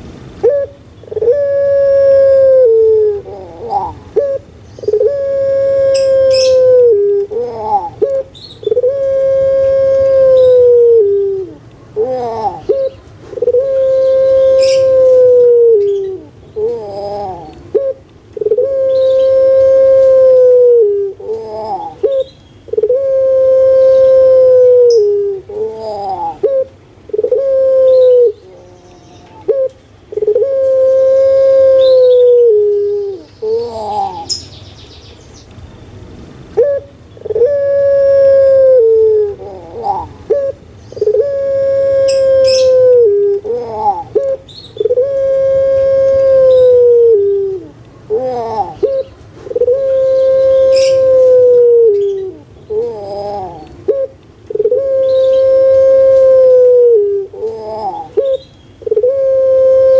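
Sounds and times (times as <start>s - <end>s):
dove cooing: 0.0s - 34.4s, 36.6s - 59.9s.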